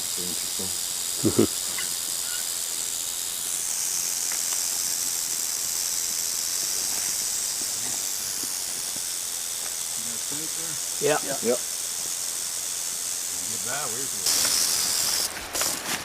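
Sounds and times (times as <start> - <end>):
rattlesnake rattling its tail: 0.0 - 16.0.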